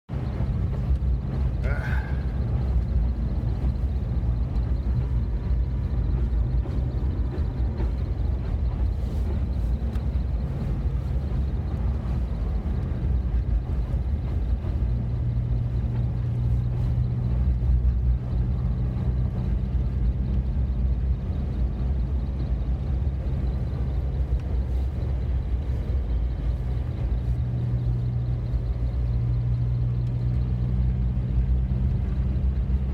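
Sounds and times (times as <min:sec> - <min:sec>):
car engine and road drone: 0:00.0 - 0:32.9.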